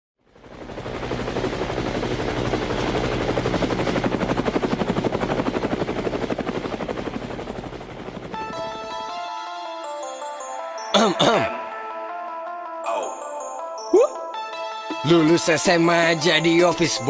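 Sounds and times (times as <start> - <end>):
melody of sustained notes: 0.4 - 17.0.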